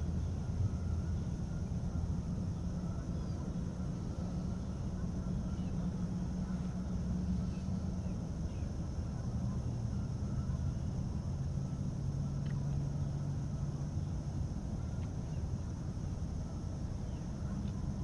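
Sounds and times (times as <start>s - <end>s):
high insect drone: 0.0s - 18.0s
faint bird chirps: 0.1s - 15.6s, 16.4s - 18.0s.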